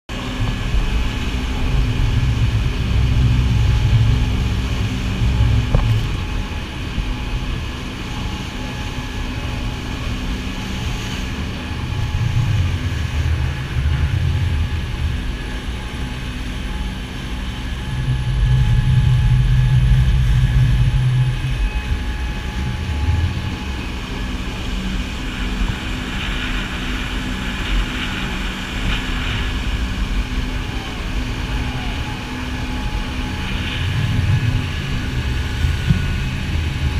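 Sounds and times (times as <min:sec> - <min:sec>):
boat engines droning: 0:00.1 - 0:36.9
rush of boat wake: 0:00.1 - 0:36.9
wind buffeting microphone: 0:00.1 - 0:36.9.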